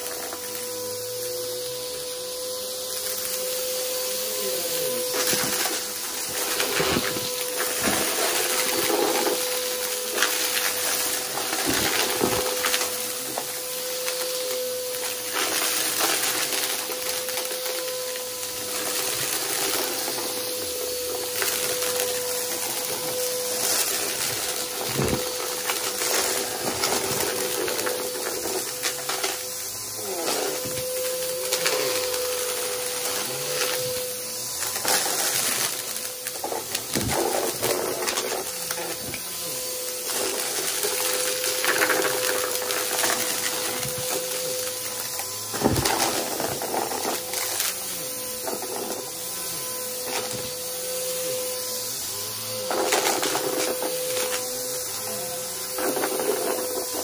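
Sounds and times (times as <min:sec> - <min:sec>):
debris crackling in vacuum: 0:00.0 - 0:57.0
vacuum cleaner motor hum: 0:00.0 - 0:57.0.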